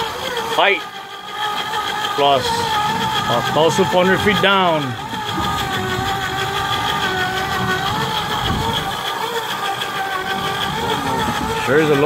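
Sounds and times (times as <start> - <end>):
fishing reel motor humming: 0.0 - 12.0.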